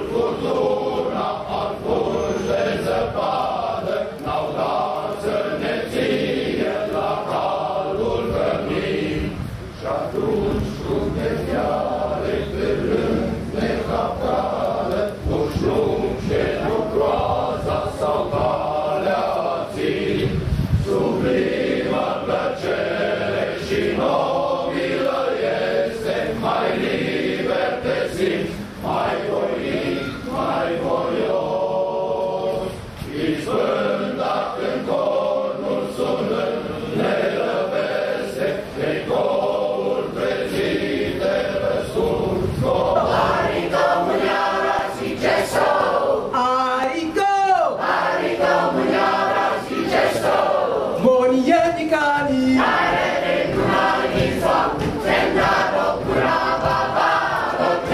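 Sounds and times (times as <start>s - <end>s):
choir singing: 0.0s - 46.4s, 47.7s - 51.0s, 52.5s - 57.9s.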